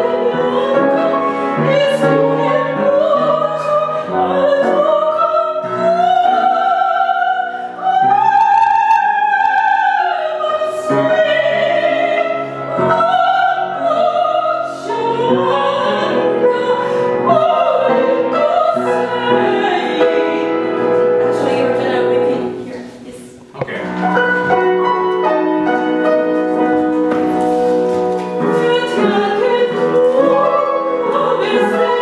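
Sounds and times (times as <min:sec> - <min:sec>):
operatic soprano singing: 0:00.0 - 0:22.8, 0:28.4 - 0:32.0
piano accompaniment: 0:00.0 - 0:32.0.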